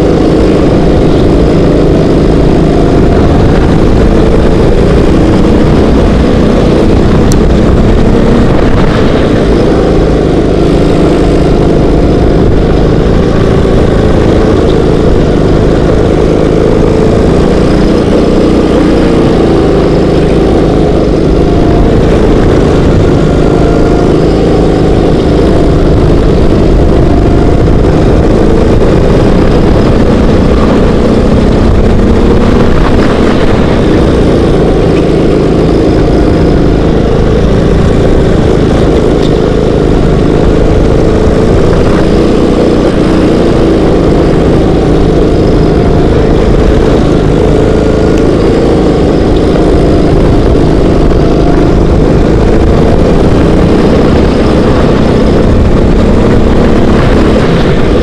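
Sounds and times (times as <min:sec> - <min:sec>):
kart engine running hard: 0:00.0 - 0:58.0.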